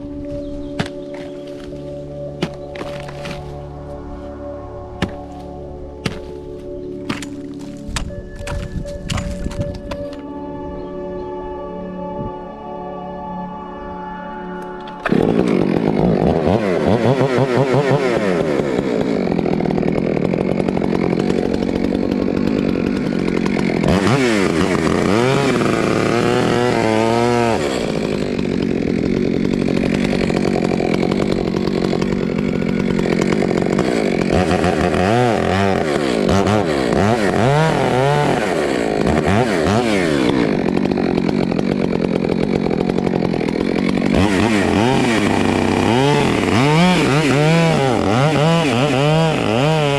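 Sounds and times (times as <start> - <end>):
chainsaw cutting wood: 0.0 - 10.5, 14.5 - 49.9.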